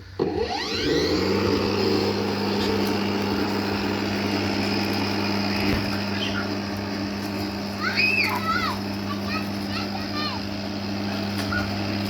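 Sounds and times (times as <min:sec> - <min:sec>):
electric lawn mower motor whining: 0:00.0 - 0:12.0.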